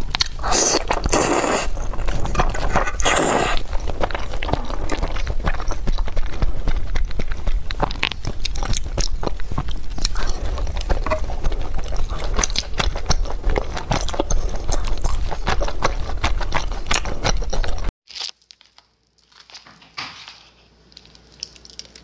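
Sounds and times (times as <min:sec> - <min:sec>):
chewing: 0:00.0 - 0:19.5, 0:20.9 - 0:22.0.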